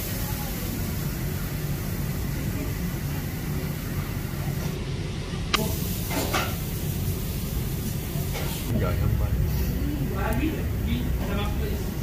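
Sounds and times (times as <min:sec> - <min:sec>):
gas burner rumble: 0:00.0 - 0:12.0.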